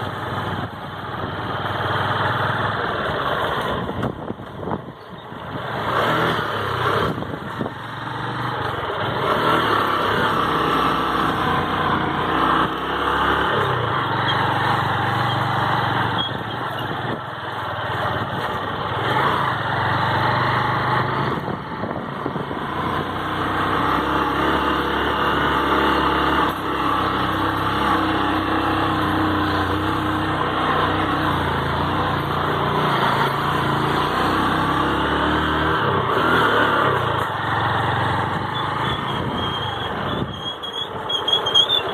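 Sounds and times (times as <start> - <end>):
road and wind noise: 0.0 - 41.9
vehicle engine running: 0.0 - 41.9.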